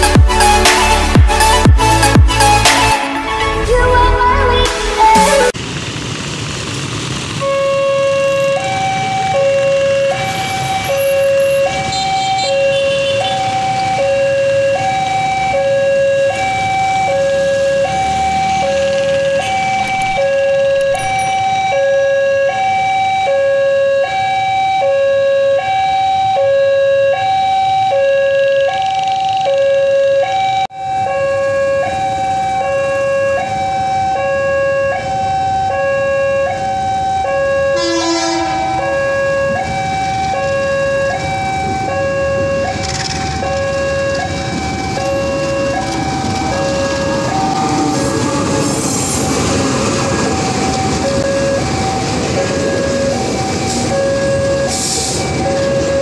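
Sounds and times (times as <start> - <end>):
level-crossing two-tone alarm: 7.4 - 56.0.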